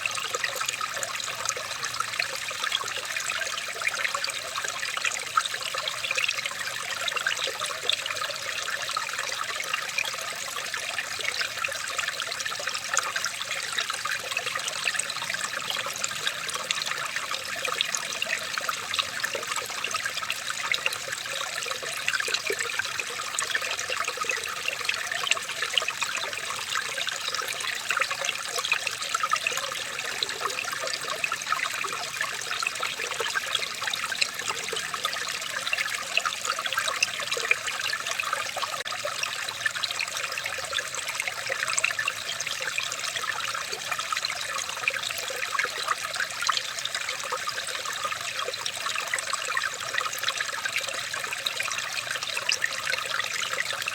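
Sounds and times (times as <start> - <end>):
water running and trickling: 0.0 - 53.9.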